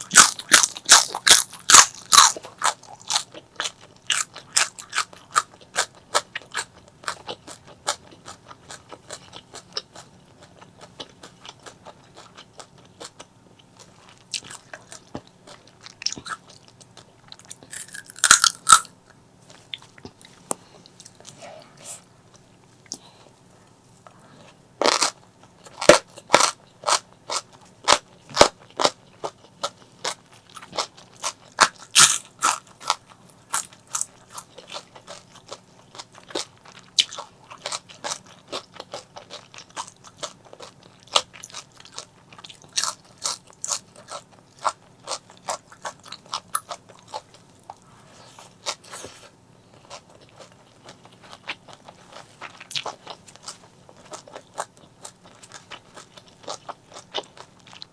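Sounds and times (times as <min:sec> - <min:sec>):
crunchy chewing: 0:00.0 - 0:23.4, 0:24.0 - 0:57.9.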